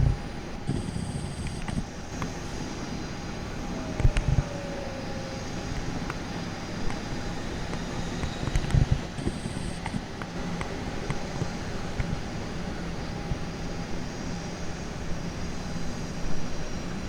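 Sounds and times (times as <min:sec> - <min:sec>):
jet aircraft noise: 0:00.0 - 0:17.0.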